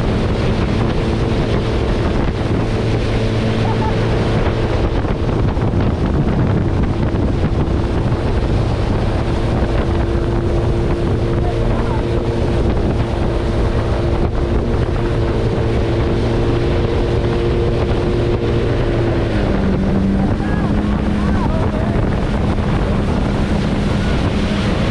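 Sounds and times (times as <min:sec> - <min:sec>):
rushing water: 0:00.0 - 0:24.9
watercraft engine droning: 0:00.0 - 0:24.9
wind noise on microphone: 0:00.0 - 0:24.9.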